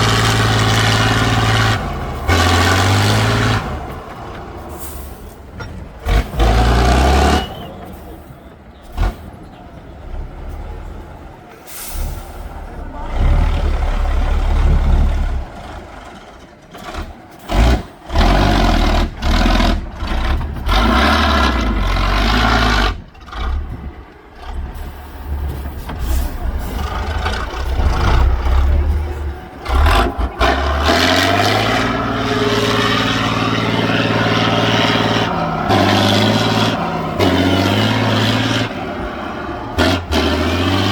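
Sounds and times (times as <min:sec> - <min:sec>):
diesel engine revving hard: 0:00.0 - 0:08.2, 0:08.8 - 0:11.0, 0:11.8 - 0:40.9.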